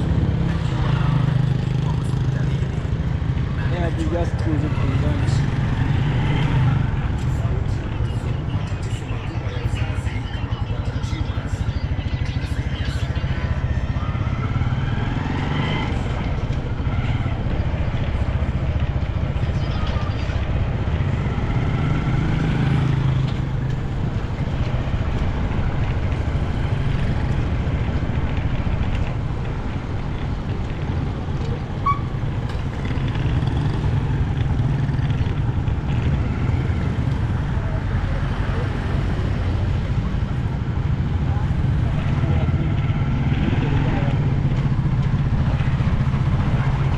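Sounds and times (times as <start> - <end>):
vehicle engine and road noise: 0.0 - 46.9.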